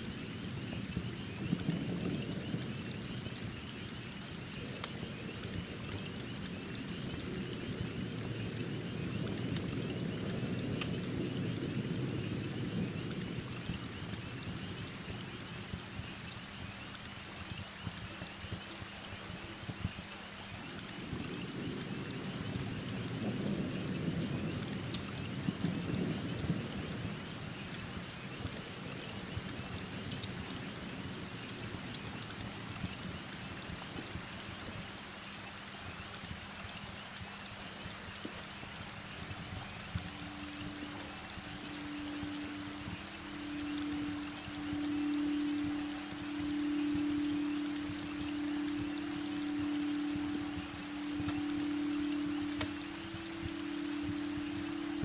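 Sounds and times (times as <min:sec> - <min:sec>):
heavy rain: 0:00.0 - 0:55.0
small ticks: 0:00.8 - 0:55.0.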